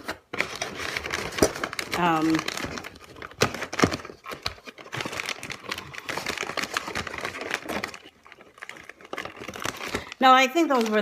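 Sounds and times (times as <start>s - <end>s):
snack bag crinkling: 0.0s - 11.0s.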